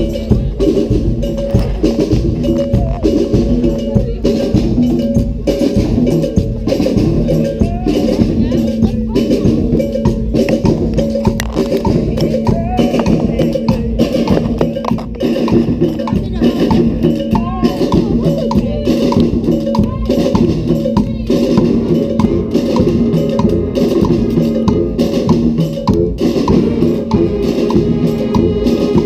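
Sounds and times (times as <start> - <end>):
brass band playing: 0.0 - 29.0
hand percussion and drums: 0.0 - 29.0.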